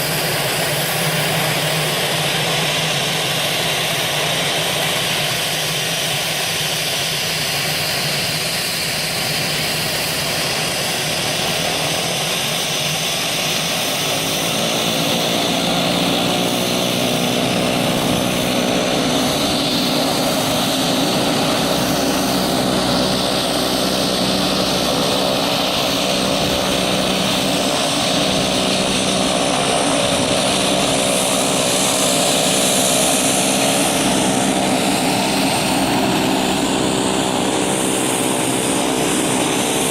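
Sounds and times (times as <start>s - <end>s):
airplane engine running: 0.0s - 39.9s
humming drone: 0.0s - 39.9s.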